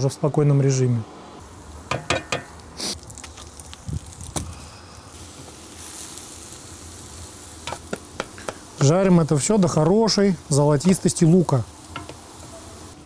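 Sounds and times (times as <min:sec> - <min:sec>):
onions sizzling in oil: 0:01.4 - 0:13.0.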